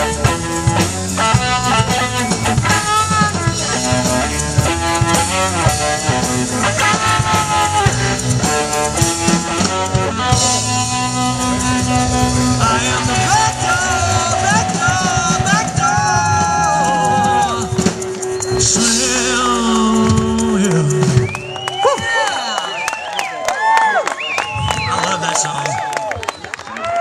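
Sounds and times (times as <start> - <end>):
electric lead guitar: 0.0 - 21.6
bass guitar: 0.0 - 22.2
drum kit: 0.0 - 22.2.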